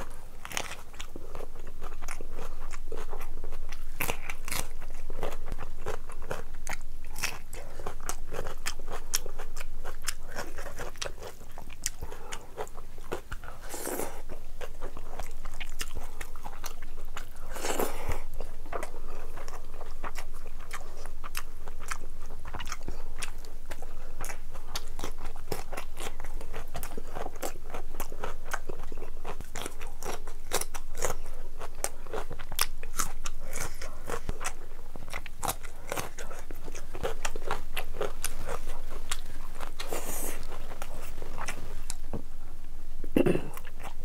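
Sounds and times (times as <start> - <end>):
person chewing wetly: 0.0 - 42.2.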